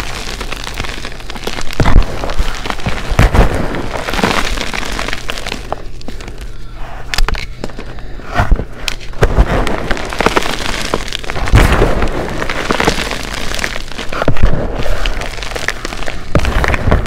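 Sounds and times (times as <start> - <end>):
chalk crunching and crackling: 0.0 - 17.0.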